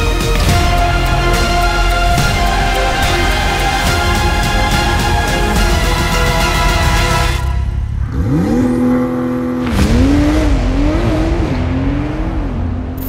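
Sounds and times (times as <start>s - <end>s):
sports car engine revving: 0.2s - 13.0s.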